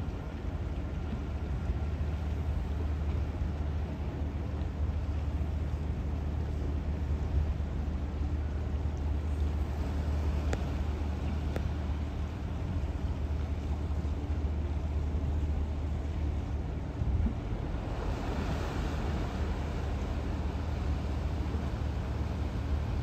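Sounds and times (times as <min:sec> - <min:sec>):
boat engines rumbling: 0:00.0 - 0:23.0.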